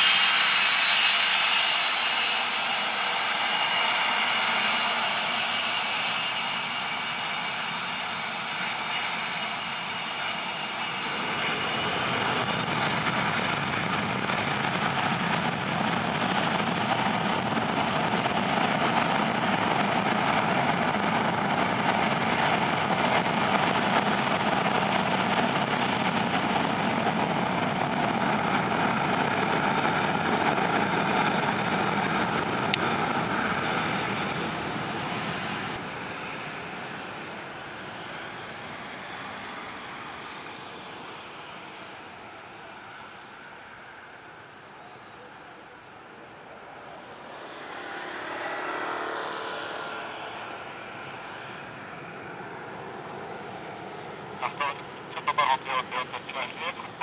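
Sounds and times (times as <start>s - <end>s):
jet engines spooling up: 0.0s - 44.8s, 46.0s - 57.0s.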